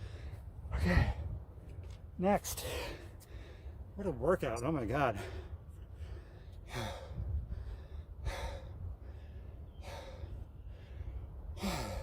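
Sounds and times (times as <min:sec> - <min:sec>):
man breathing hard: 0:00.0 - 0:01.4, 0:02.6 - 0:04.0, 0:05.1 - 0:12.0.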